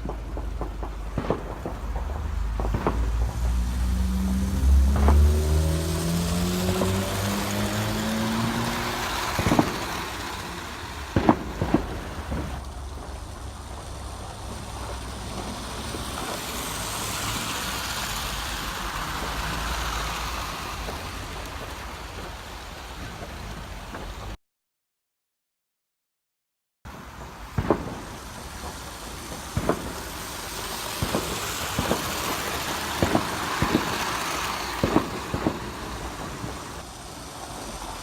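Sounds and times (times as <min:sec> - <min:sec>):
model train wheels and motor: 0:00.0 - 0:24.4, 0:26.9 - 0:38.0.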